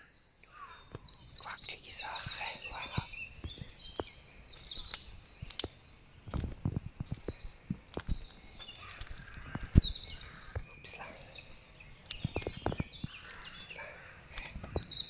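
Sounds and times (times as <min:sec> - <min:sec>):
small birds chirping and singing: 0:00.0 - 0:15.0.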